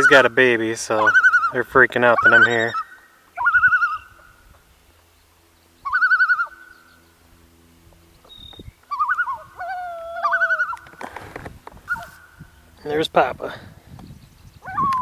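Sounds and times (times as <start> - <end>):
loon tremolo calls: 0.0 - 15.0.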